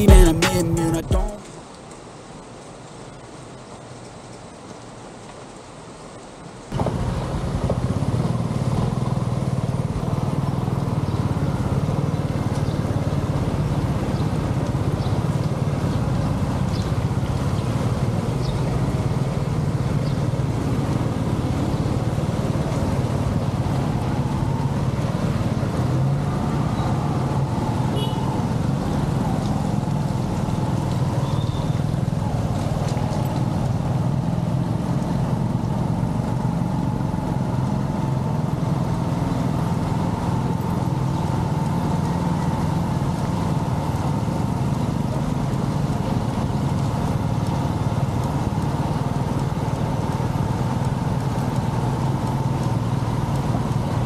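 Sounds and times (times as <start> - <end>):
rain: 0.0 - 54.0
road traffic: 0.0 - 54.0
wind rumble on microphone: 6.7 - 54.0.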